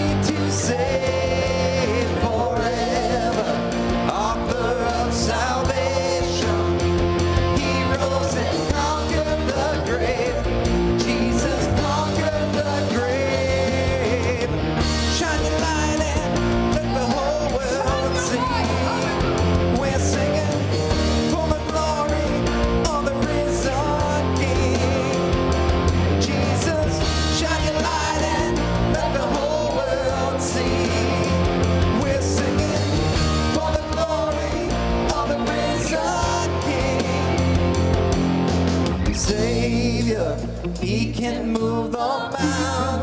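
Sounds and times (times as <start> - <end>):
person singing: 0.0 - 25.5, 26.1 - 37.6, 39.0 - 43.0
upbeat worship music: 0.0 - 43.0.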